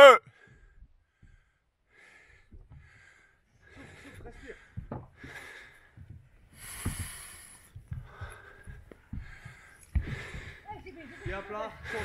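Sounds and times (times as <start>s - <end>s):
heavy breathing: 0.0s - 12.0s.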